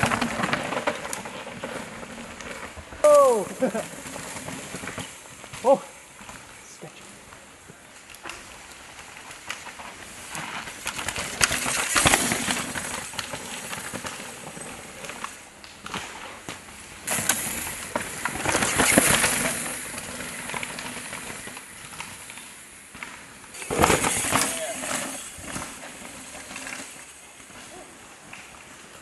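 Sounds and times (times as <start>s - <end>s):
bike tyres on rocky dirt: 0.0s - 29.0s.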